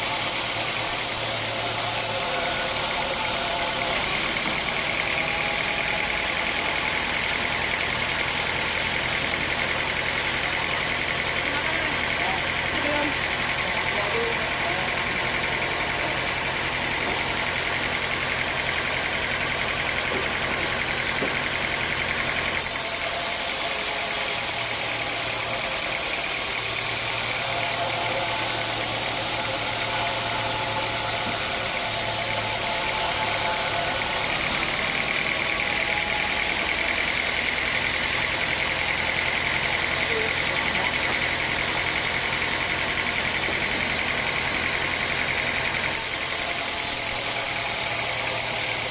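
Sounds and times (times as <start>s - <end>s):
sawmill machinery droning: 0.0s - 48.9s.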